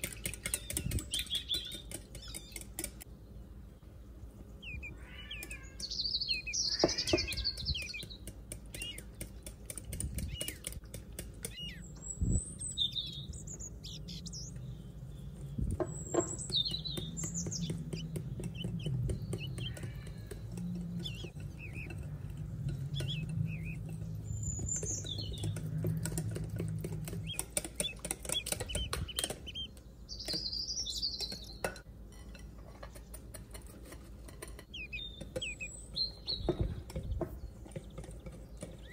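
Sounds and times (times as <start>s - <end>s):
high bird chirps: 0.0s - 3.0s, 4.3s - 31.7s, 34.6s - 38.9s.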